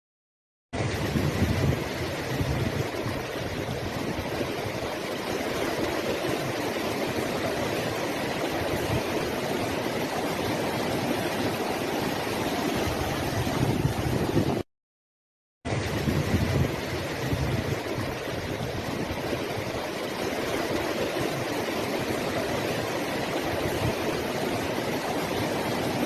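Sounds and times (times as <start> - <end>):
running water rushing: 0.8 - 14.6, 15.7 - 26.0.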